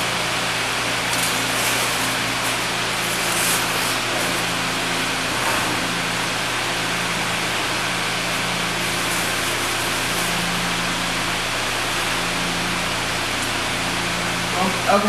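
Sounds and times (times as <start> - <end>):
circulation fan running: 0.0 - 15.0.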